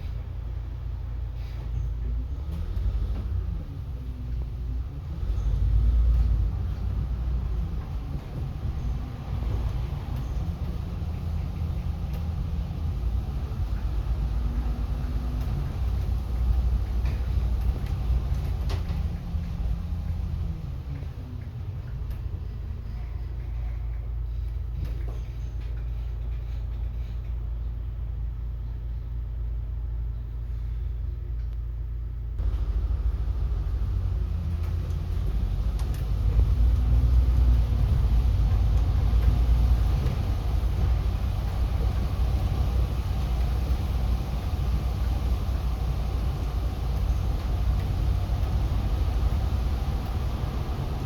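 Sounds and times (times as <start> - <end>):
bus engine rumble: 0.0 - 51.0
road noise: 0.0 - 51.0.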